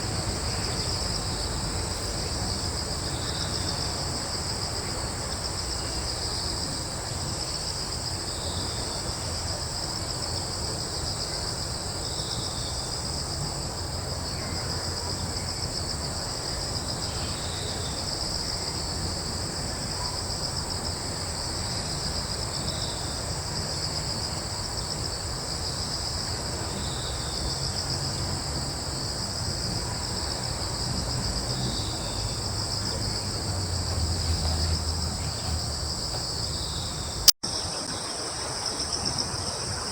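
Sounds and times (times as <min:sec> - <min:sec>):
crickets trilling: 0:00.0 - 0:39.9
low rumble of breeze: 0:00.0 - 0:39.9.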